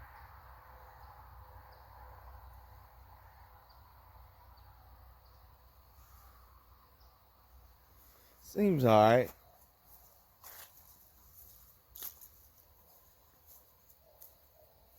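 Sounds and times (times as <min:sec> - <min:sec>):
faint insect chirp: 0:00.0 - 0:14.9.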